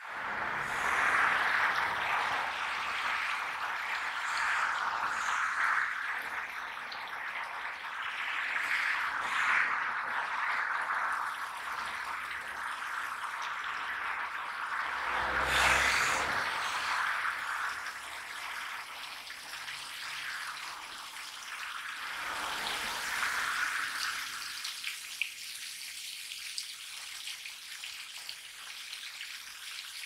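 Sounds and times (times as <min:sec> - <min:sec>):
water rushing and splashing: 0:00.0 - 0:25.4.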